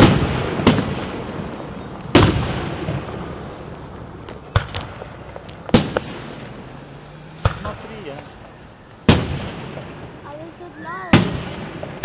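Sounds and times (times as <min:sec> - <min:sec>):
fireworks bangs: 0:00.0 - 0:12.0
rolling echo: 0:00.0 - 0:12.0.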